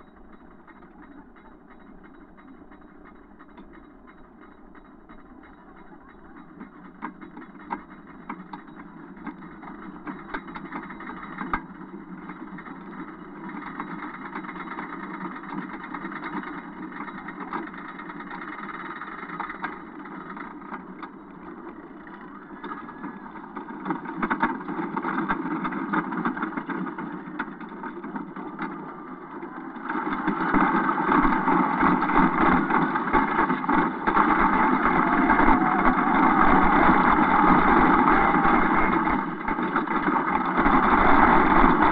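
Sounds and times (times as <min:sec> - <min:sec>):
roller coaster rattling on track: 0:00.0 - 0:41.9.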